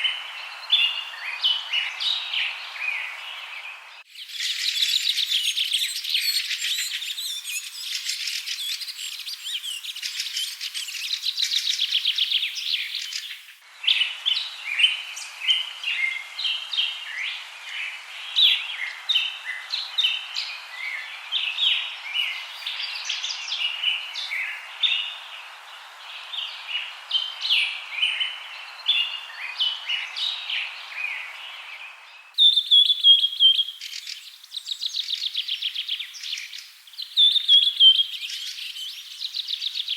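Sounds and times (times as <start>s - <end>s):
faint hiss: 0.0s - 39.9s
songbirds chirping and trilling: 0.0s - 39.9s.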